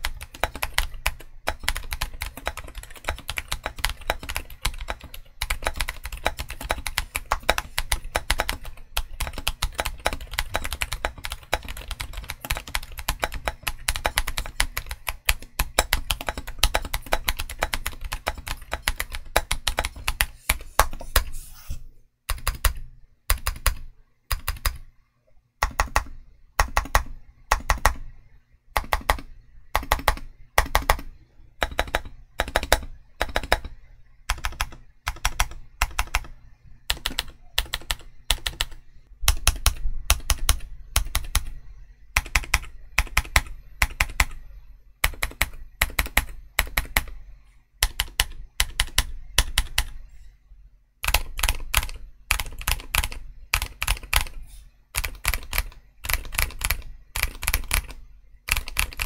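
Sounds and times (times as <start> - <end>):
mechanical keyboard typing: 0.0 - 21.3, 22.3 - 24.9, 25.6 - 28.1, 28.8 - 41.6, 42.2 - 44.4, 45.0 - 47.2, 47.8 - 50.0, 51.0 - 59.0.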